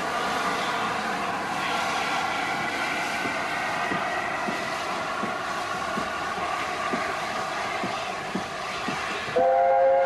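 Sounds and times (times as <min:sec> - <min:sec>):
steam hissing: 0:00.0 - 0:10.0
steam locomotive exhaust beats: 0:00.0 - 0:10.0.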